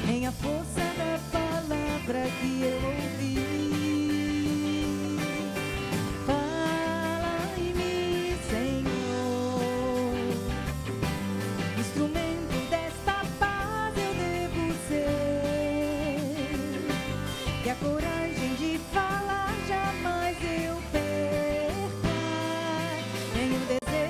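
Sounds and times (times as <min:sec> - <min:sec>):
woman singing: 0:00.0 - 0:10.8, 0:11.6 - 0:24.0
acoustic guitar: 0:00.0 - 0:24.0.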